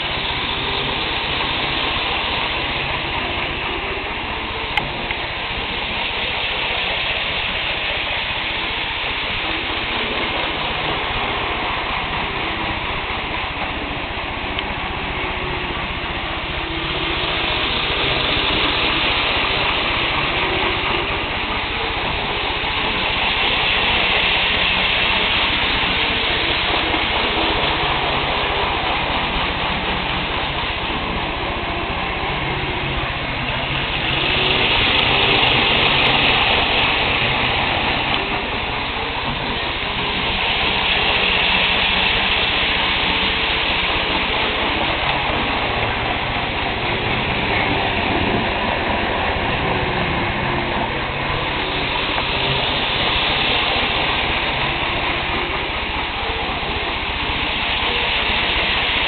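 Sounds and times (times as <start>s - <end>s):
model train whirring: 0.0s - 59.0s.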